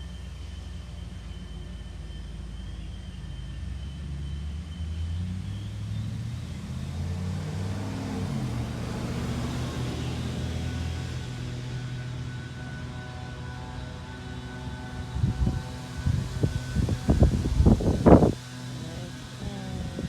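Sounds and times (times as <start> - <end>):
engine rumbling: 0.0 - 20.0
hiss of wind or road noise: 0.0 - 20.0.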